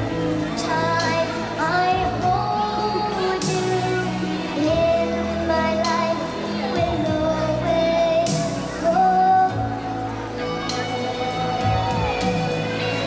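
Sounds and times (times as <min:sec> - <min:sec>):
backing music with bass: 0:00.0 - 0:13.0
girl singing long notes: 0:00.3 - 0:13.0.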